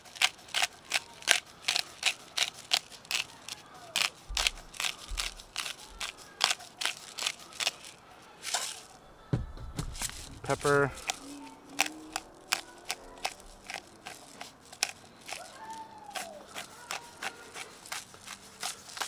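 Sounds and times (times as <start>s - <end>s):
pepper mill grinding: 0.0s - 9.2s, 9.8s - 19.0s.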